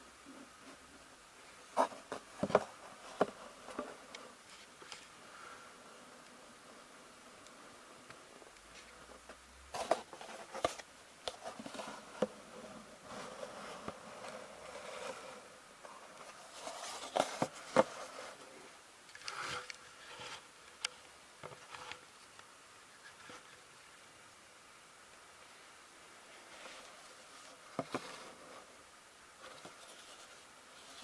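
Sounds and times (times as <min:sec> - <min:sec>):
rustling: 0:00.2 - 0:24.1, 0:25.4 - 0:31.0.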